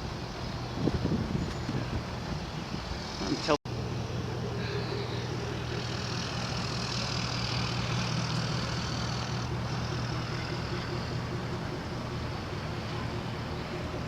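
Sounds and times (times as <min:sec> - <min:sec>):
street traffic hiss: 0:00.0 - 0:14.0
vehicle engine idling: 0:00.0 - 0:14.0.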